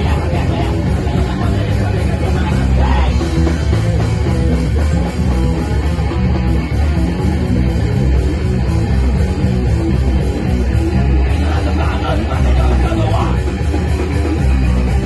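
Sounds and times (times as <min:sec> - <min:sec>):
rock band with distorted guitars: 0:00.0 - 0:15.0.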